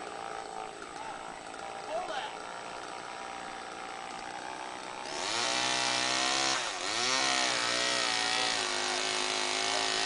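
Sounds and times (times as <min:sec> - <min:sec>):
chainsaw running at high revs: 0:00.0 - 0:10.0.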